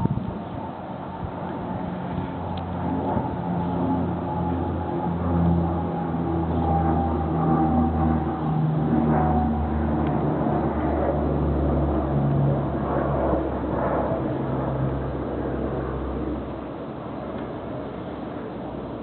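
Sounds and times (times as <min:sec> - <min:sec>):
military aircraft engine drone: 0:00.0 - 0:19.0.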